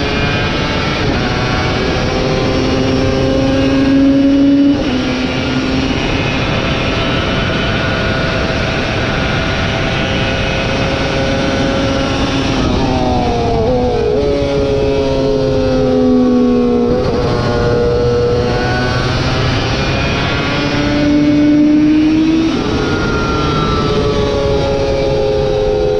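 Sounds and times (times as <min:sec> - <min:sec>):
racing motorcycle engine: 0:00.0 - 0:25.9
rush of noise: 0:00.0 - 0:25.9.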